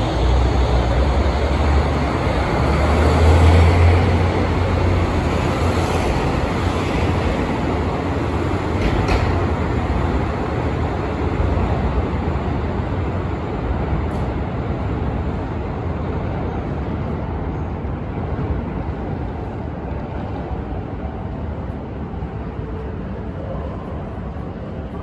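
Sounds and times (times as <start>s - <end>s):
diesel train rumbling: 0.0s - 25.0s.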